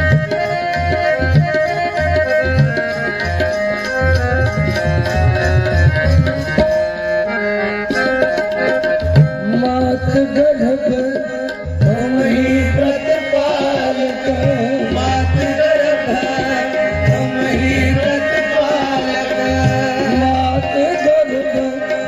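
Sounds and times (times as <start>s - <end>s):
harmonium held notes: 0.0s - 22.0s
tabla playing: 0.0s - 22.0s.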